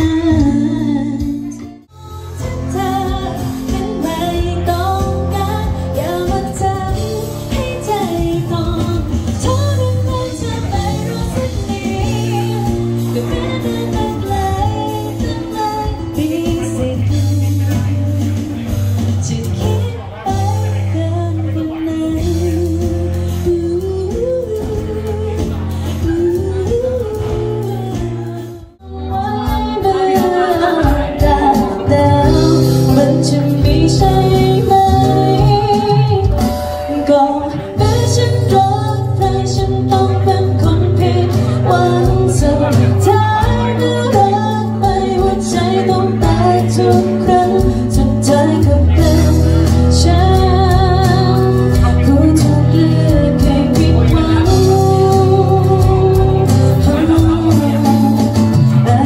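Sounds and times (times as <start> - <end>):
steady bass line: 0.0 - 36.7, 37.5 - 59.0
guitar: 0.0 - 59.0
woman singing into microphone: 0.0 - 59.0.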